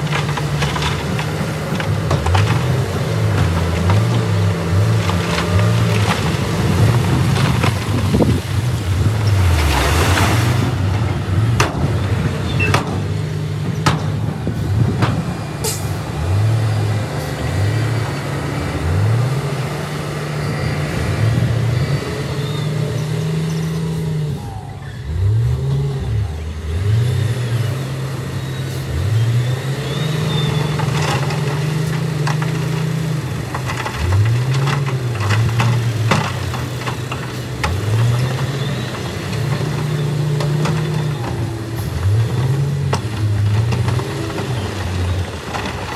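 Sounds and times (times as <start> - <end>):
diesel engines revving: 0.0 - 45.9.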